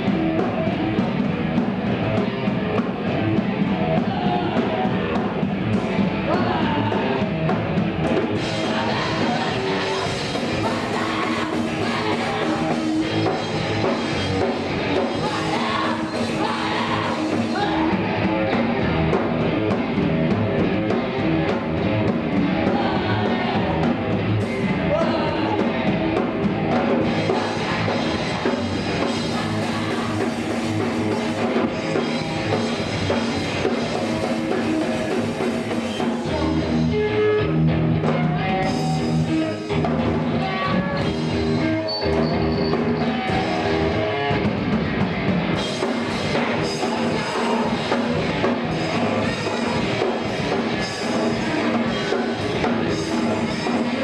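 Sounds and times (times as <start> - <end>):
loud rock music with singing: 0.0 - 54.0.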